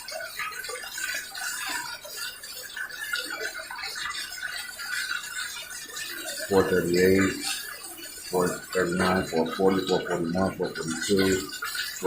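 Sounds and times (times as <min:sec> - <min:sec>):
toilet flushing: 0:00.0 - 0:12.0.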